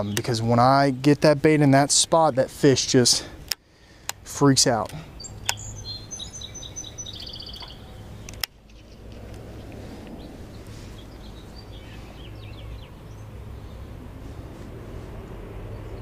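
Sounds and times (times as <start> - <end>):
songbird chirping: 0.0 - 2.9, 3.8 - 14.2.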